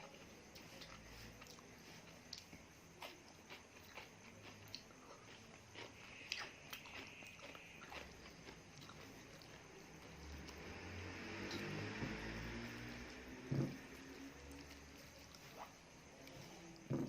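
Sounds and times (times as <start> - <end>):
chewing food: 0.0 - 16.9.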